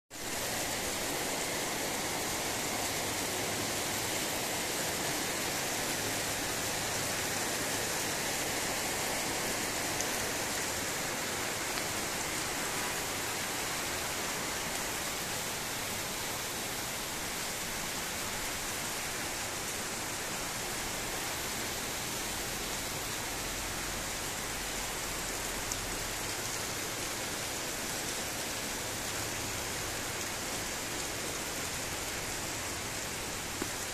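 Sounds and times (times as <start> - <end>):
steady rainfall: 0.1 - 33.9.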